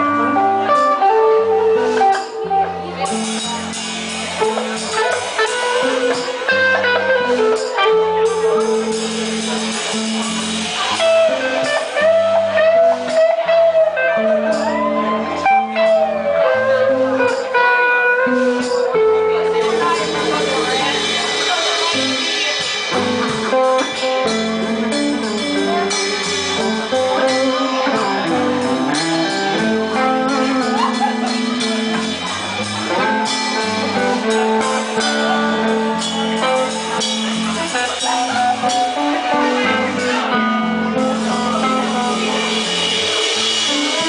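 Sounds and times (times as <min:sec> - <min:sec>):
drum kit: 0:00.0 - 0:44.0
electric guitar: 0:00.0 - 0:44.0
live rock band playing: 0:00.0 - 0:44.0.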